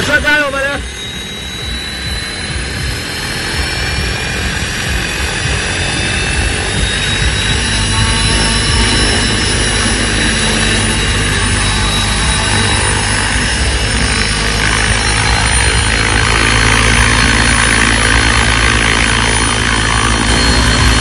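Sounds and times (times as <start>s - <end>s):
rising turbine whine: 0.0s - 21.0s.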